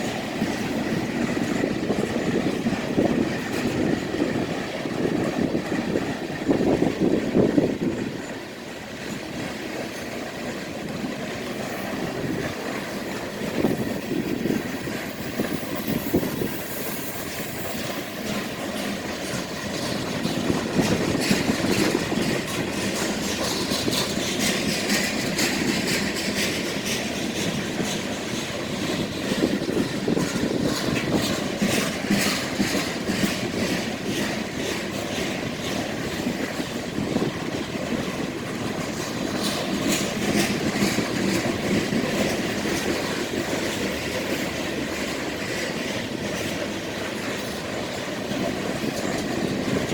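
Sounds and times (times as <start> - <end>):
train rumbling past: 0.0 - 49.9
wheels clicking over rail joints: 0.0 - 49.9.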